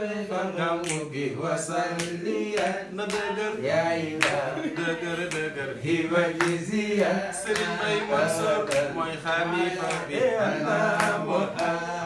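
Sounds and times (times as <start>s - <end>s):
person singing chant-like song: 0.0s - 12.0s.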